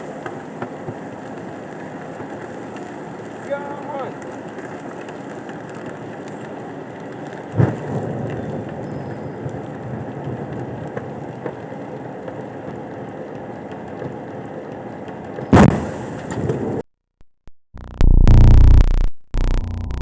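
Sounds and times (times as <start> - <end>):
fire crackling: 0.0 - 16.8.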